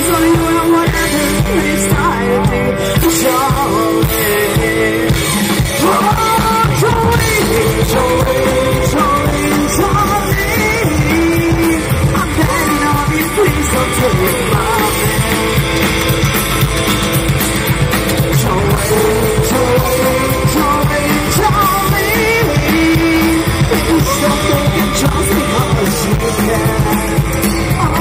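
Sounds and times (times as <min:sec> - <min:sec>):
person singing: 0:00.0 - 0:28.0
rockabilly band playing: 0:00.0 - 0:28.0.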